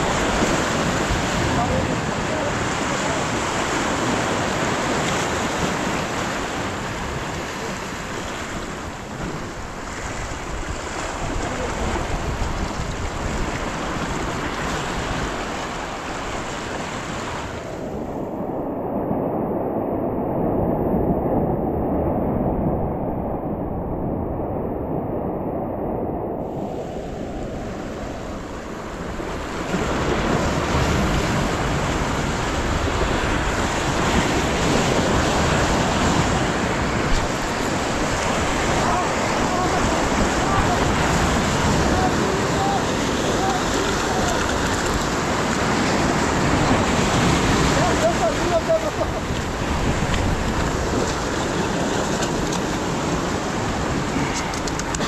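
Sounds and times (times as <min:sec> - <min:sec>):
shallow surf washing: 0:00.0 - 0:55.0
wind buffeting microphone: 0:00.0 - 0:55.0.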